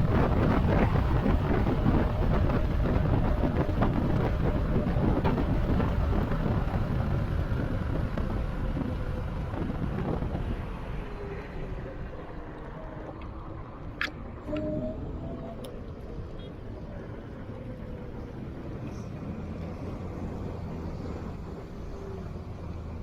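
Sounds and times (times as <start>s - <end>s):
road and tyre rumble: 0.0s - 23.0s
wind buffeting microphone: 0.0s - 23.0s.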